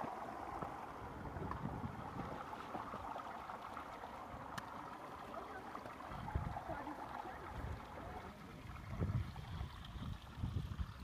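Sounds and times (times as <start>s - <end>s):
water rushing in concrete channel: 0.0s - 11.0s.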